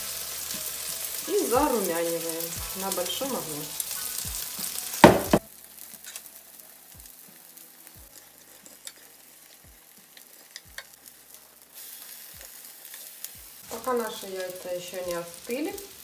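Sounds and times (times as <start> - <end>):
patties sizzling in oil: 0.0 - 16.0.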